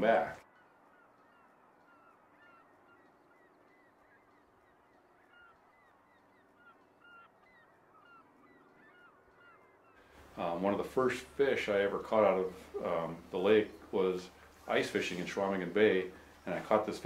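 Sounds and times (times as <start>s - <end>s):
distant flock of birds calling: 0.0s - 17.0s.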